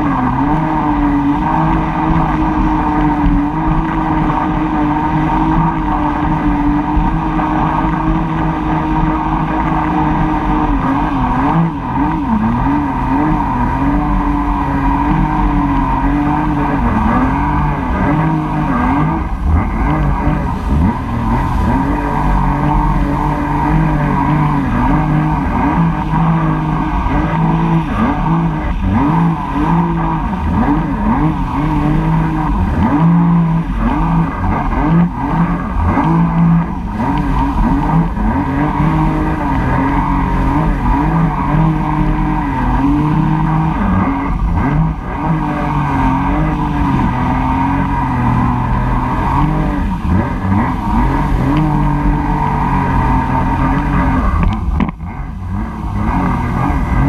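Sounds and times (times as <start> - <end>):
jet ski engine: 0.0 - 57.0
rushing wind and water: 0.0 - 57.0.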